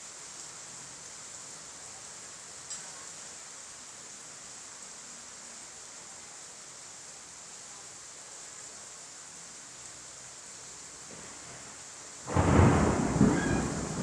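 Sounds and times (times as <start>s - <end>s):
faint hiss of rain: 0.0s - 14.0s.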